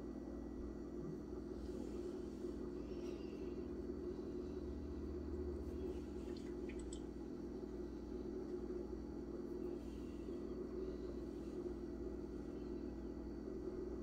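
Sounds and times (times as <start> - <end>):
low hum of room tone: 0.0 - 14.0.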